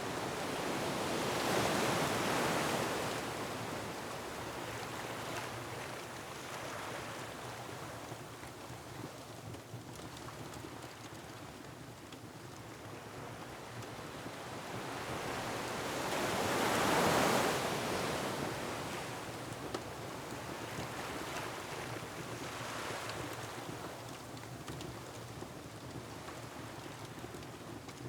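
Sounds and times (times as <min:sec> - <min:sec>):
wind: 0:00.0 - 0:28.0.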